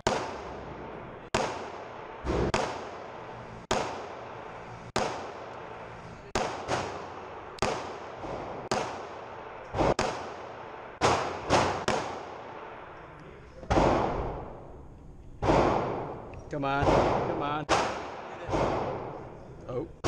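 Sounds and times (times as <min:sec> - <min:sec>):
pistol shots with echo: 0:00.0 - 0:12.8, 0:13.7 - 0:14.6, 0:15.4 - 0:19.4.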